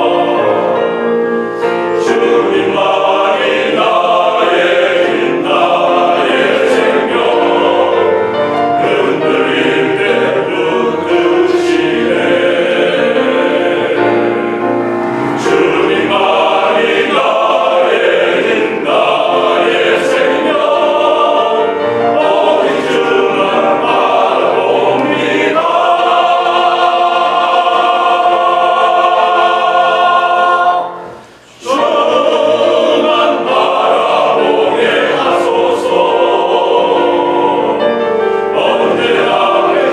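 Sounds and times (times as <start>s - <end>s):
vocal ensemble singing in parts: 0.0s - 39.9s.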